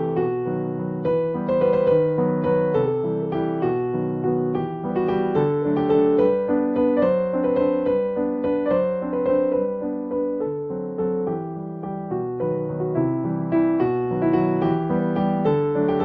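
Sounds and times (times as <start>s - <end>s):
gentle keyboard tune: 0.0s - 16.0s.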